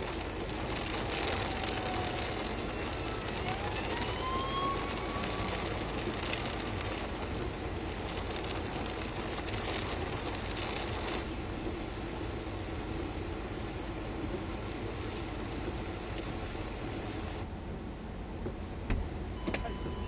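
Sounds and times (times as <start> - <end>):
strong wind with deep rumble: 0.0 - 20.0.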